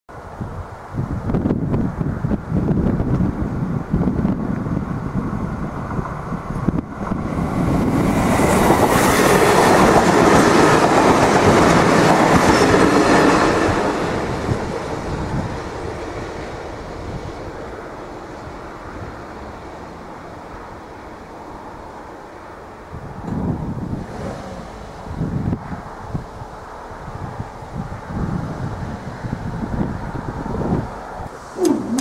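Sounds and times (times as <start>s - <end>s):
diesel train passing: 1.9s - 32.0s.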